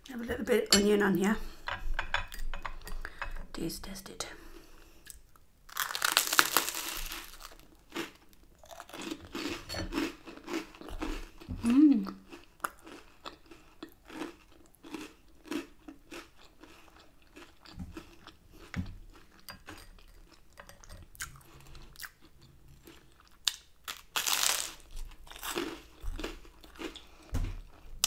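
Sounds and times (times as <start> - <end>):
person chewing crunchy food: 4.9 - 28.0.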